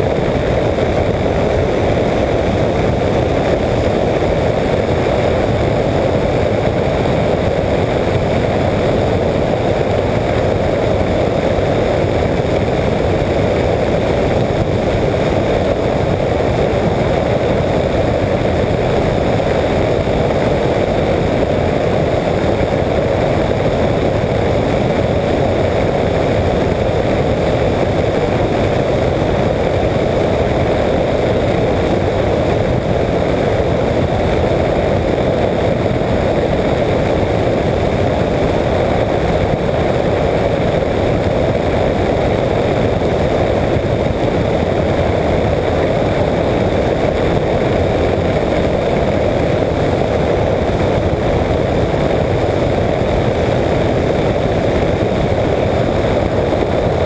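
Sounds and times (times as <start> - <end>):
microlight engine and propeller drone: 0.0 - 57.0.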